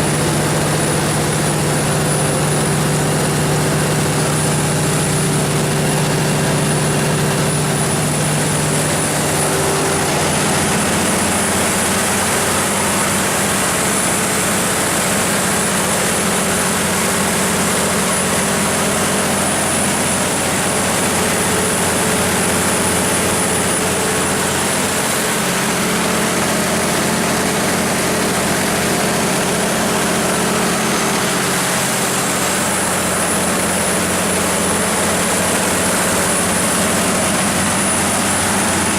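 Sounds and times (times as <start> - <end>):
diesel generator engine drone: 0.0 - 38.9.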